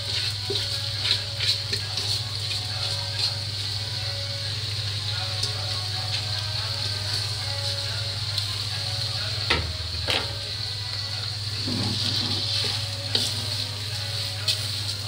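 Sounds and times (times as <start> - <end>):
rice sizzling in hot oil: 0.0 - 15.0.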